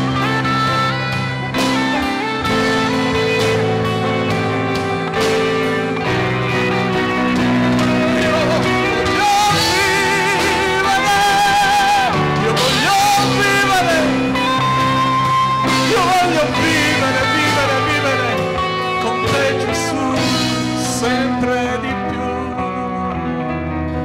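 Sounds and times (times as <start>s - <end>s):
flute melody: 0.0s - 21.1s
drum kit beat: 0.0s - 21.6s.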